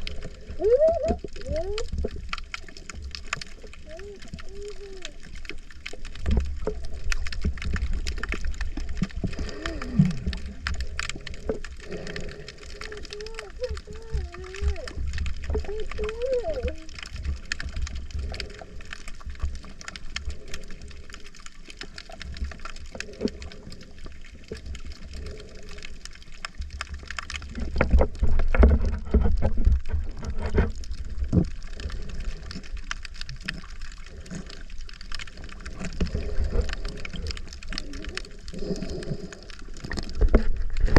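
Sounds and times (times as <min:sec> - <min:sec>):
bubbly splashes: 0:00.0 - 0:40.9
water sloshing and gurgling: 0:00.0 - 0:40.9.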